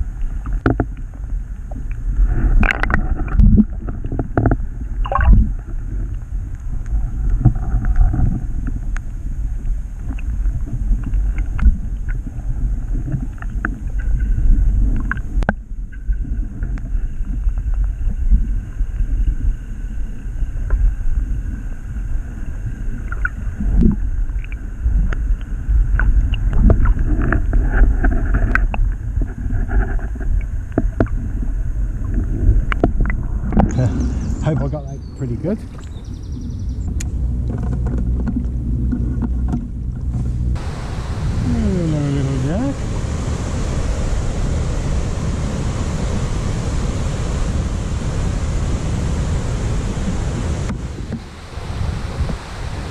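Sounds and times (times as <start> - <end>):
muffled underwater river rush: 0.0 - 52.9.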